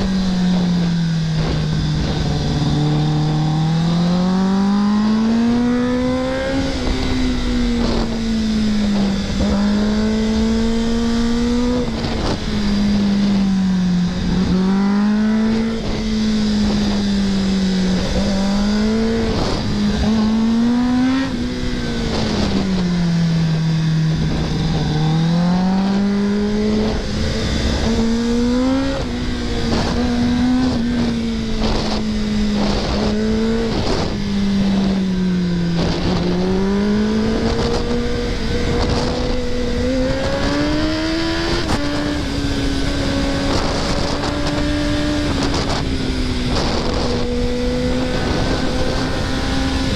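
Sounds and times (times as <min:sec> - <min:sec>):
motorcycle engine revving: 0:00.0 - 0:49.9
wind noise: 0:00.0 - 0:49.9.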